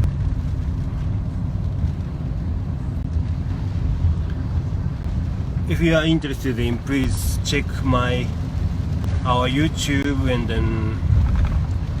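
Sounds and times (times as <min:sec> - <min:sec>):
strong wind: 0:00.0 - 0:09.3, 0:10.0 - 0:12.0
car rumbling: 0:00.0 - 0:12.0
road noise: 0:00.0 - 0:12.0.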